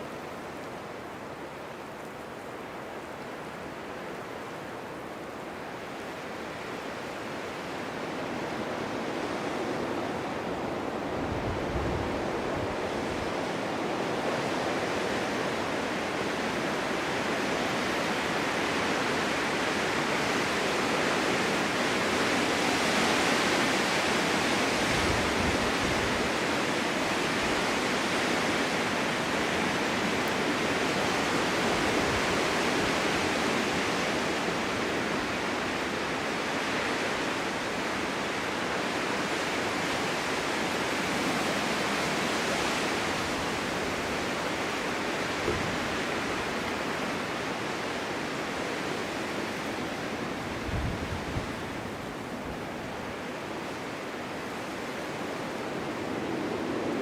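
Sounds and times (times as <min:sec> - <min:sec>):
strong wind blowing: 0:07.3 - 0:57.0.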